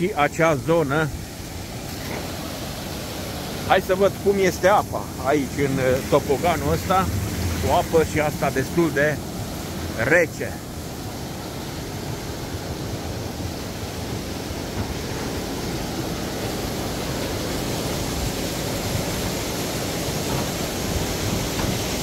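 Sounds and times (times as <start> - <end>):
water rushing down slide: 1.8 - 22.0.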